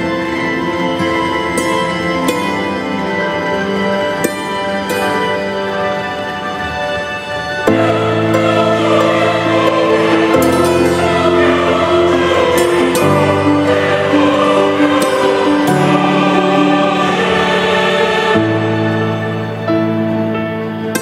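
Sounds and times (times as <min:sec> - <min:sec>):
slow held chords music: 0:00.0 - 0:21.0.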